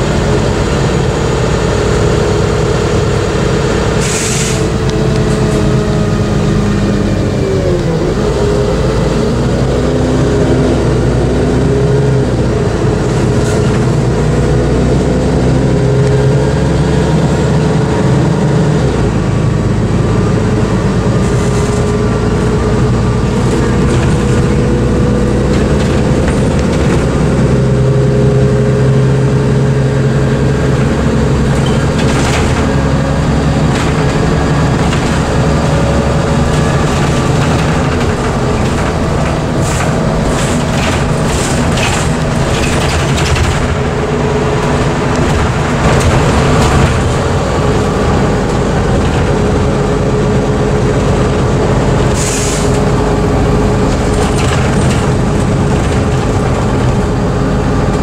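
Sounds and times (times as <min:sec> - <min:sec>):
bus engine running: 0:00.0 - 0:58.0
road and tyre noise: 0:00.0 - 0:58.0.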